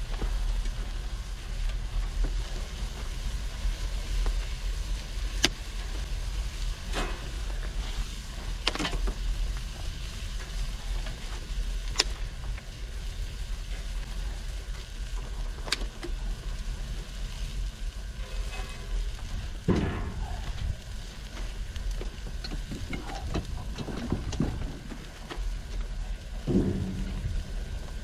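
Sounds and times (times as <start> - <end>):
fire pops and crackles: 0.0 - 28.0
low furnace rumble: 0.0 - 28.0
wet firewood hissing and sizzling: 0.0 - 28.0.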